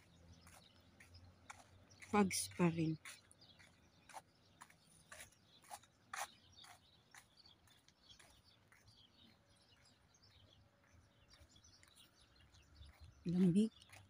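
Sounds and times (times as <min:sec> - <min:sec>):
footsteps on pavement: 0:00.0 - 0:14.0
small bird chirps: 0:00.0 - 0:14.0.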